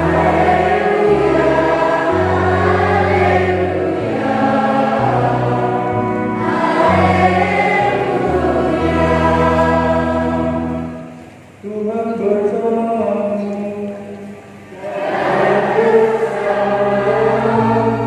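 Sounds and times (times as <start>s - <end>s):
children's choir singing a hymn: 0.0s - 11.3s, 14.5s - 18.0s.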